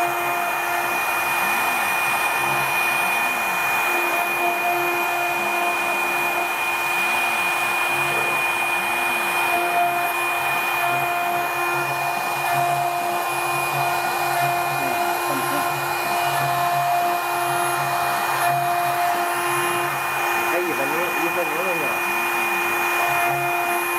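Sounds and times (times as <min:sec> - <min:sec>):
engraving machine spindle whine: 0:00.0 - 0:23.9
low machine hums: 0:00.0 - 0:23.9.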